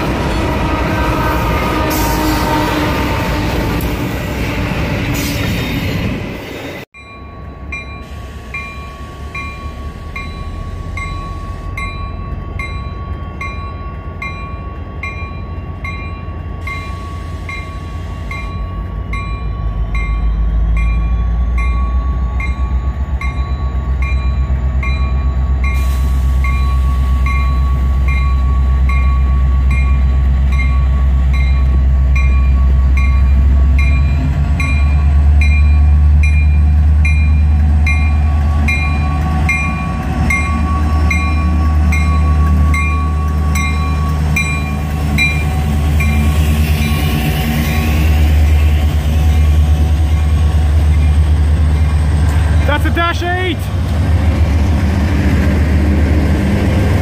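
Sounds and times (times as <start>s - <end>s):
diesel locomotive engine rumble: 0.0s - 57.0s
locomotive wheels rushing on rail: 7.5s - 57.0s.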